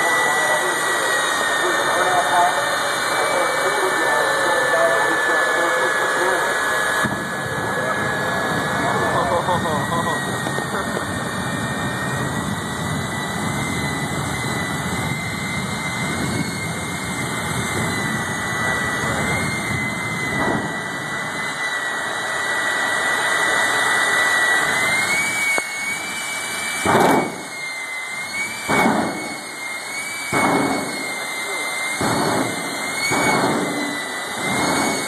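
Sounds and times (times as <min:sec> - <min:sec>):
jet engine whine: 0:00.0 - 0:35.0
rush of exhaust noise: 0:00.0 - 0:35.0.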